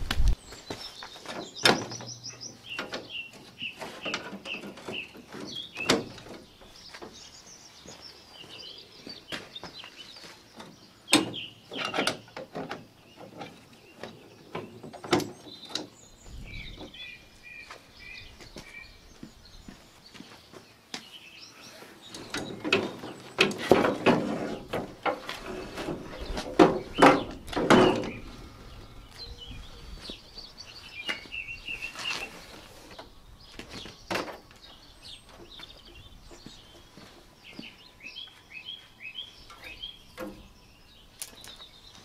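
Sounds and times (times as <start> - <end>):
songbird chirping: 0.0 - 42.0.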